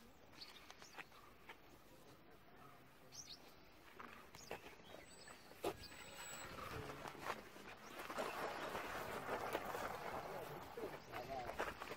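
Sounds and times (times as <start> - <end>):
faint outdoor ambience: 0.0 - 11.9.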